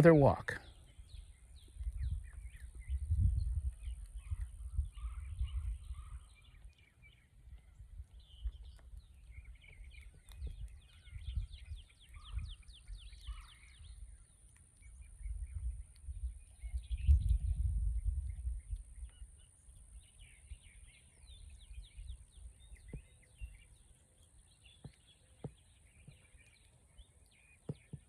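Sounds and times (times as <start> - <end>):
birds chirping and singing: 0.0 - 28.0.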